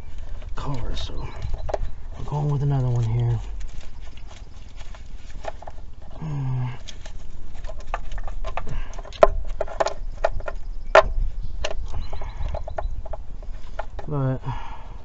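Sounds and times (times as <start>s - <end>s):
hand tools clicking and knocking: 0.0s - 14.2s.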